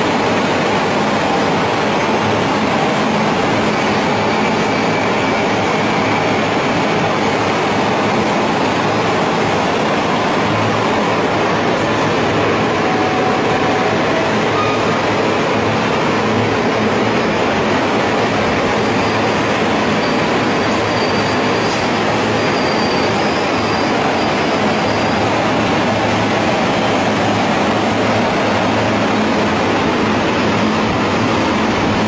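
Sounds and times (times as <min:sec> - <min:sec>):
large fans blowing air: 0:00.0 - 0:32.0.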